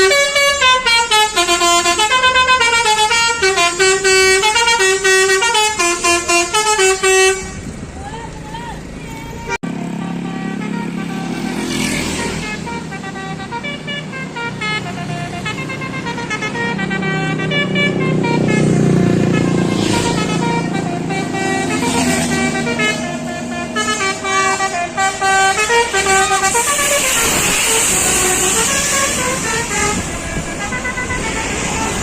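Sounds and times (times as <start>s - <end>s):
multi-tone air horn tune: 0.0s - 7.7s, 9.4s - 32.0s
bus engine running: 0.0s - 32.0s.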